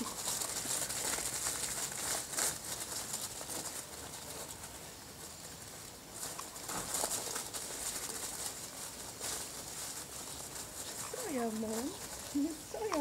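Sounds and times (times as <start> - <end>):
puppies scampering on dry leaves: 0.0 - 13.0.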